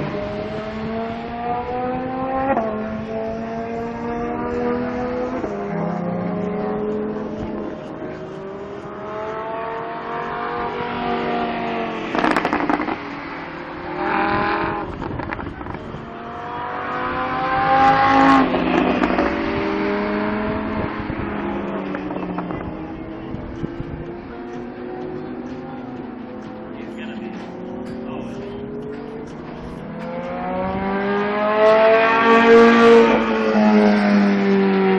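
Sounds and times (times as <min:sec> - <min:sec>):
sports car engine revving: 0:00.0 - 0:34.9.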